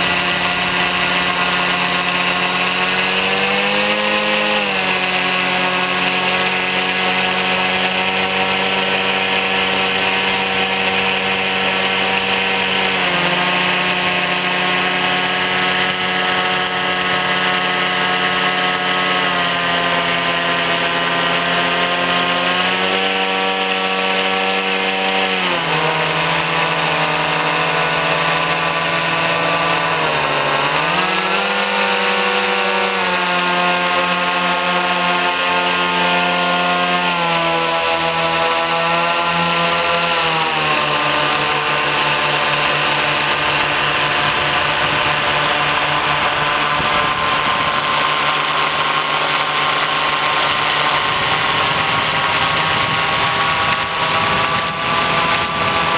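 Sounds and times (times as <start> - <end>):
propeller motors whining: 0.0 - 55.9.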